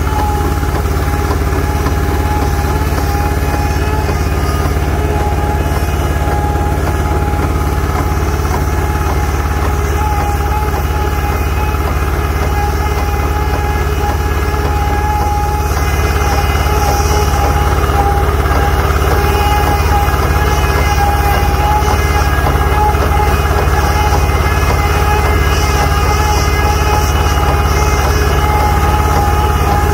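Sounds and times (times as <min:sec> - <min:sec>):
pump engine running: 0:00.0 - 0:29.9.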